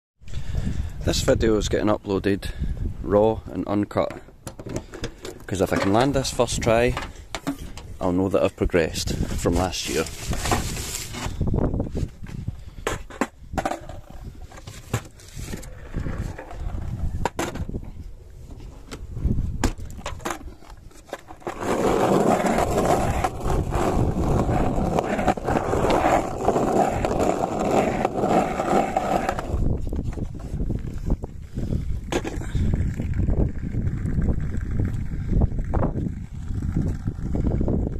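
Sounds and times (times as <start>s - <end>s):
skateboard wheels rolling on asphalt: 0.2s - 37.9s.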